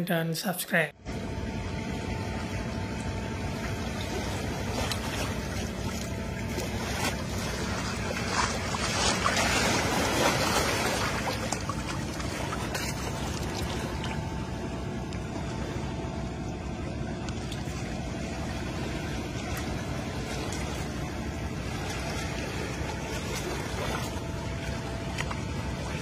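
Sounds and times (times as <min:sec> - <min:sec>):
low rumble: 0:01.0 - 0:26.0.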